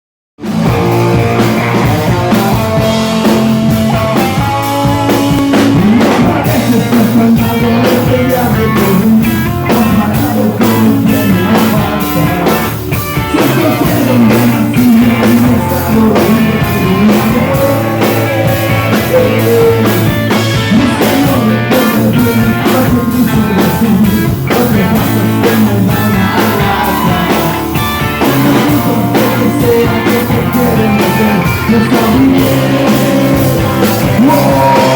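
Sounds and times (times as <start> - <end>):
drum kit steady beat: 0.4 - 34.9
rock band playing live: 0.4 - 34.9.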